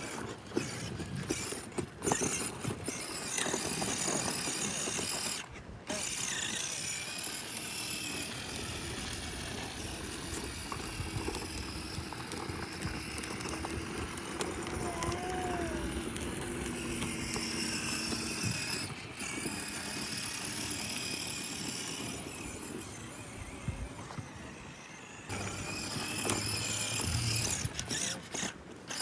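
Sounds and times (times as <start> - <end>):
toy motorbike wheels rattling: 0.0 - 29.0.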